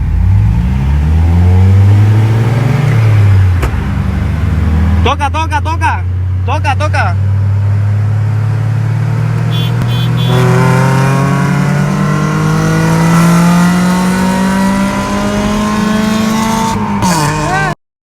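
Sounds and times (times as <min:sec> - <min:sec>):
car engine accelerating: 0:00.0 - 0:17.8.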